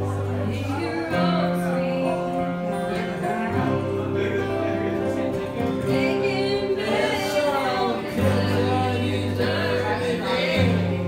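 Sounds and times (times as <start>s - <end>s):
acoustic guitars strumming: 0.0s - 11.0s
person singing: 0.0s - 11.0s.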